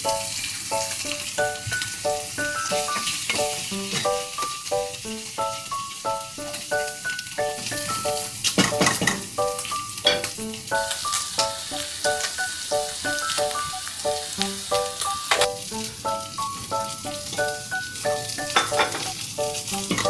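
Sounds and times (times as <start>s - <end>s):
food sizzling in a pan: 0.0s - 20.0s
plucked background music: 0.0s - 20.0s.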